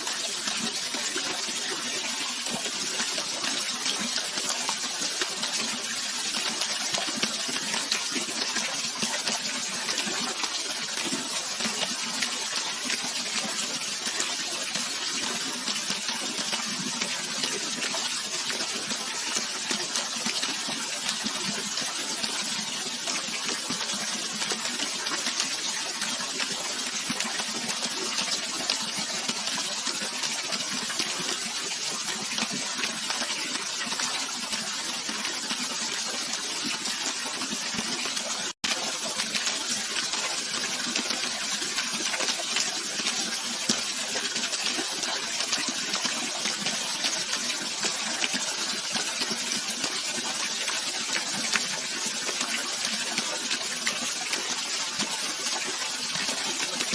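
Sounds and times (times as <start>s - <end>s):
running water rushing: 0.0s - 56.9s.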